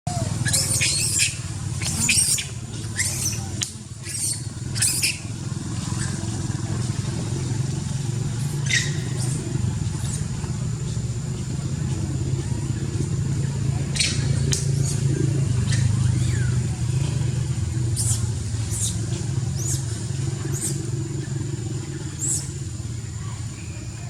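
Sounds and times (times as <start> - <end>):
vehicle engine running: 0.1 - 24.0.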